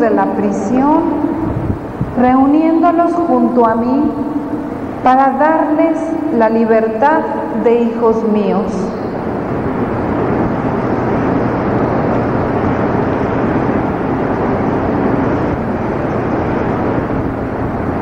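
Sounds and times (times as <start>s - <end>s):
loud steady rushing noise: 0.0s - 18.0s.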